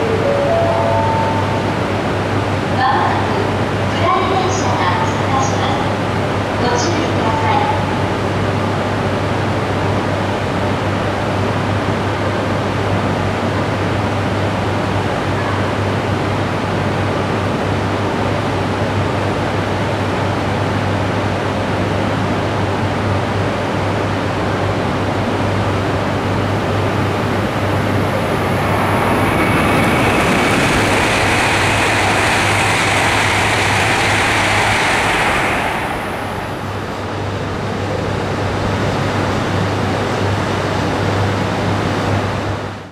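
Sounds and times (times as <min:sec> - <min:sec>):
train passing with rushing roar: 0:00.0 - 0:42.7.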